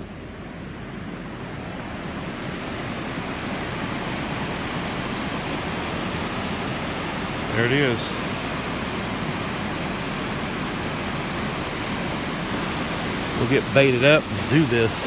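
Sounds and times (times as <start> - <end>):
water gushing into spillway: 1.5 - 15.0.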